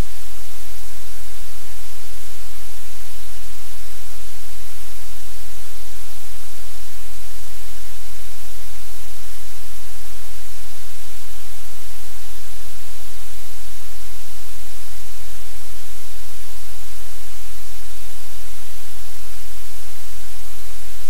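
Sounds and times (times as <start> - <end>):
static-like hiss: 0.0 - 21.0.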